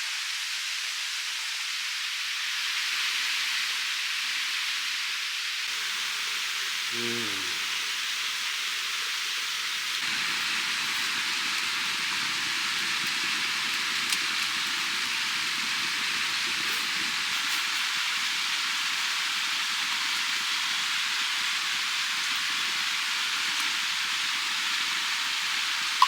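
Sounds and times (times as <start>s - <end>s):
steady even hiss: 0.0s - 26.0s.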